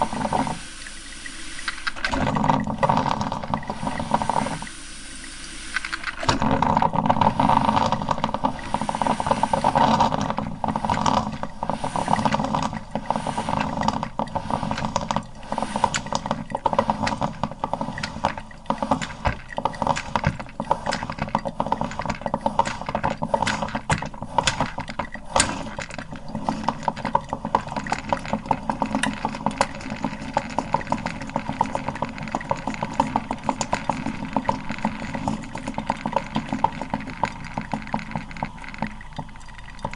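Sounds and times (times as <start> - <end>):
coffee maker sputtering: 0.0 - 39.9.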